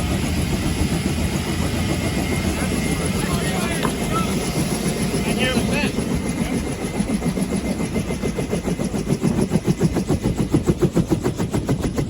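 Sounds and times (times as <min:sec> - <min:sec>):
helicopter rotor thumping: 0:00.0 - 0:12.0
turbine engine rumble and whine: 0:00.0 - 0:12.0.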